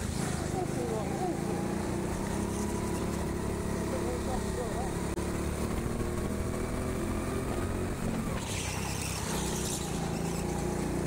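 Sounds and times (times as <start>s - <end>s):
go-kart engine drone: 0.0s - 11.0s.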